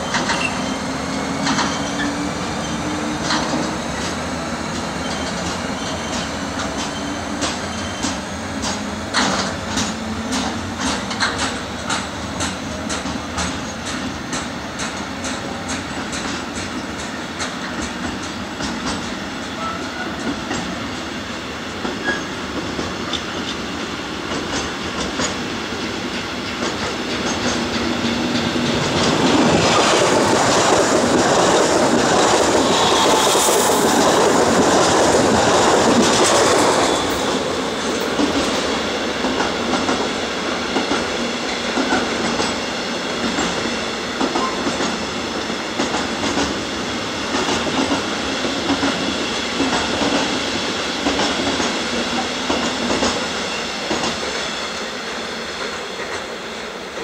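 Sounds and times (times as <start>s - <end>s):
electric train passing close: 0.0s - 57.0s
freight train wheels clicking: 0.0s - 57.0s.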